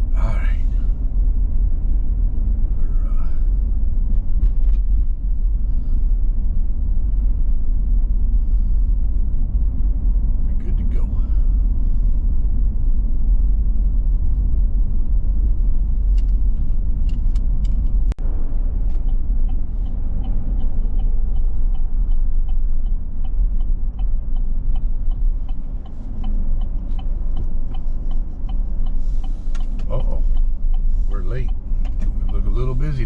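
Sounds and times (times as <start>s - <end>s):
car road rumble and engine: 0.0s - 33.0s
turn signal ticking: 0.0s - 33.0s.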